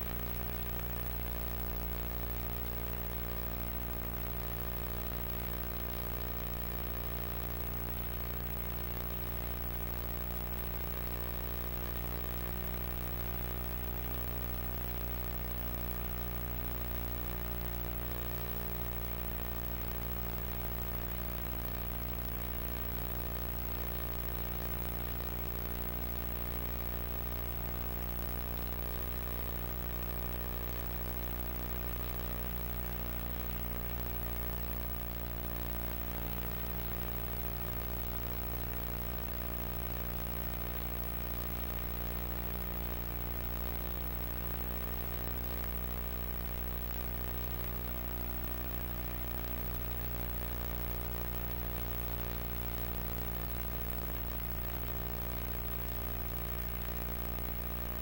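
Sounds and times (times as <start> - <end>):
constant hiss: 0.0 - 58.0
electrical hum: 0.0 - 58.0.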